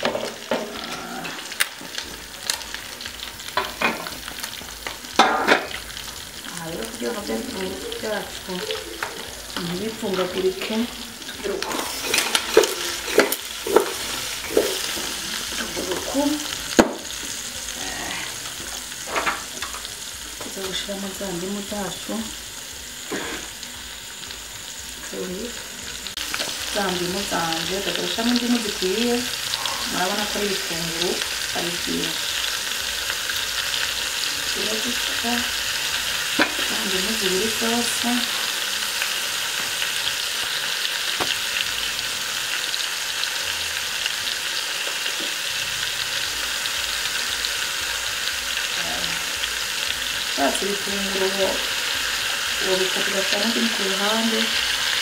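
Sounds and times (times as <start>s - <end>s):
meat and onions sizzling: 0.0s - 55.0s.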